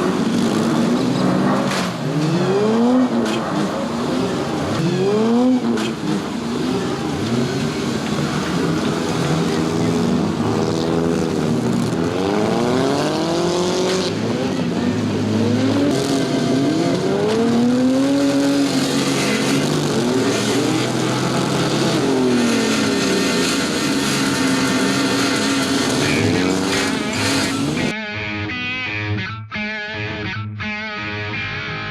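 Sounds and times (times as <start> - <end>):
car engines revving hard: 0.0 - 27.9.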